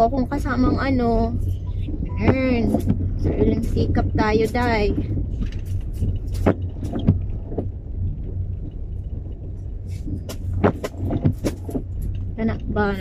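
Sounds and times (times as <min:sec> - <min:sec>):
car engine rumble and road noise: 0:00.0 - 0:13.0.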